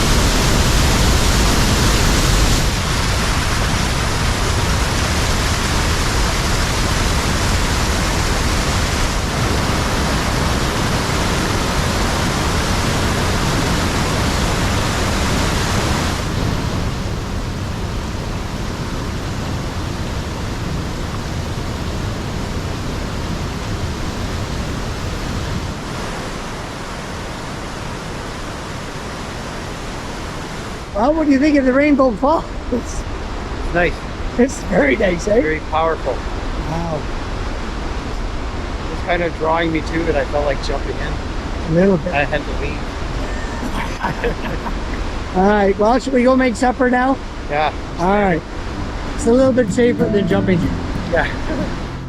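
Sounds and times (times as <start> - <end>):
waterfall roaring: 0.0 - 52.0.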